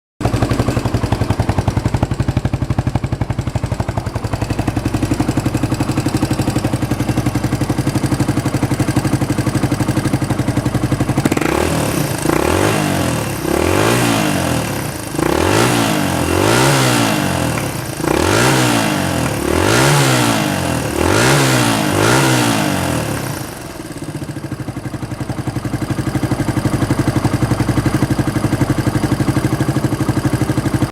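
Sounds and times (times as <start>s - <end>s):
motorcycle engine idling and revving: 0.2s - 30.9s.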